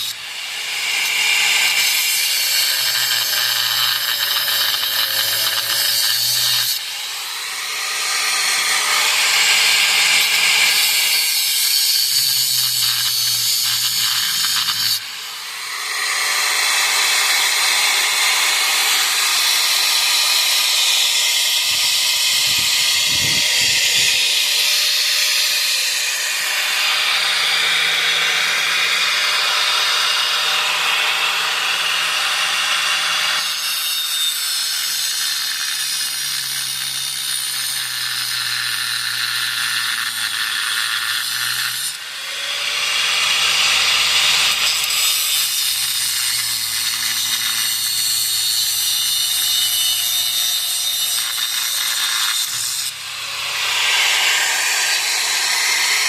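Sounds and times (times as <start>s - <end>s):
power tool grinding metal: 0.0s - 56.0s.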